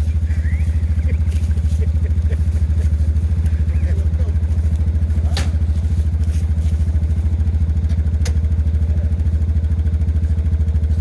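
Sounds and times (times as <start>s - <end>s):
single-cylinder engine running: 0.0s - 11.0s.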